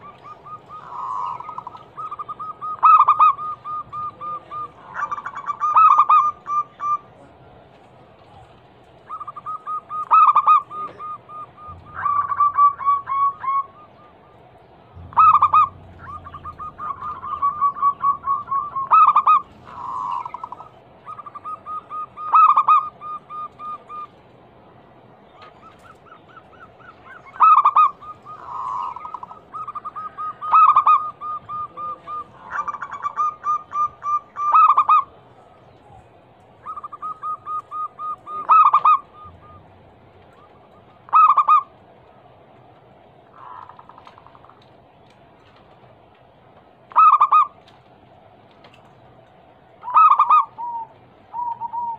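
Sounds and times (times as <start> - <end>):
doves cooing: 0.0 - 42.0, 42.6 - 51.9.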